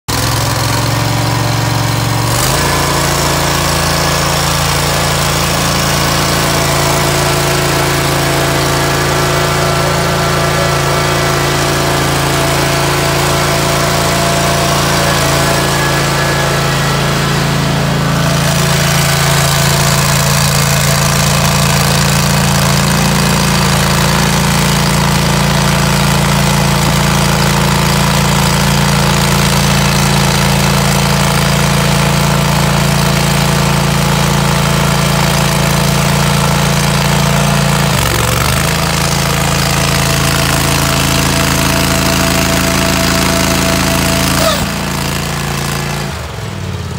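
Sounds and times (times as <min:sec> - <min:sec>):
stump grinder engine running: 0:00.0 - 0:46.9.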